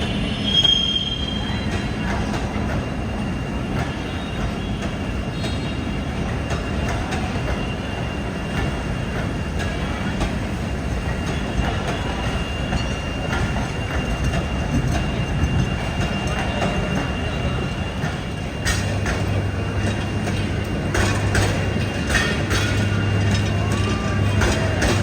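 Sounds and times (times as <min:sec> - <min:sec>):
high wheel squeal: 0:00.0 - 0:08.9, 0:09.7 - 0:25.0
train rumbling on track: 0:00.0 - 0:25.0
wheels clicking on rails: 0:01.1 - 0:25.0.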